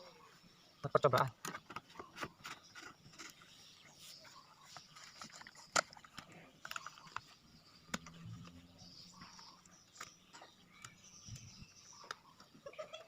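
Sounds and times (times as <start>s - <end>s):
fuel container being handled: 1.0s - 12.5s.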